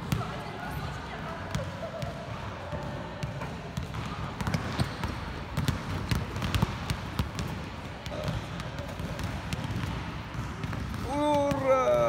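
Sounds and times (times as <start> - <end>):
basketballs bouncing on wooden floor: 1.4 - 12.0.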